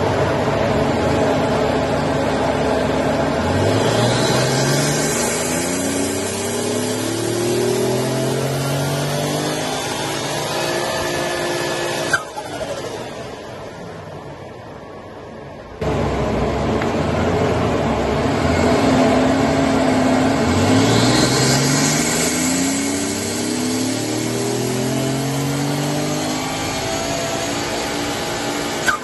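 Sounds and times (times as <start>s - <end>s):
car engine accelerating: 0.0s - 14.6s, 15.8s - 29.0s.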